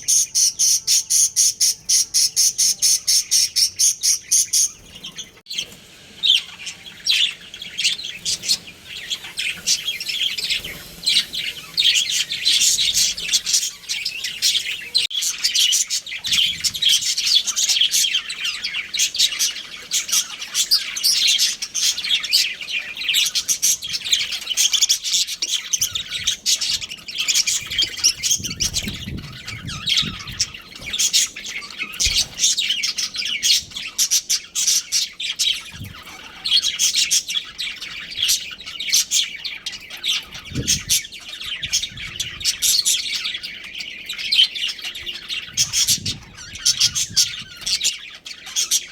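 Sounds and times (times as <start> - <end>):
budgerigars chirping: 0.0 - 48.9.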